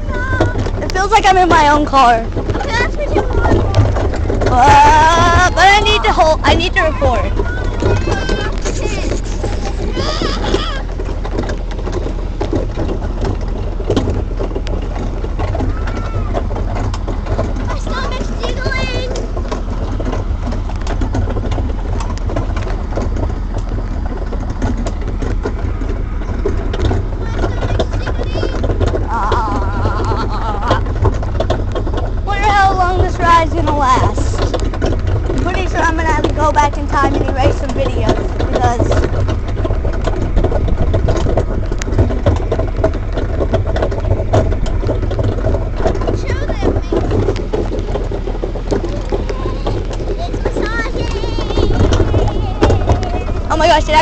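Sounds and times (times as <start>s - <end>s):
cart clattering and knocking: 0.0s - 54.0s
tractor engine running: 0.0s - 54.0s.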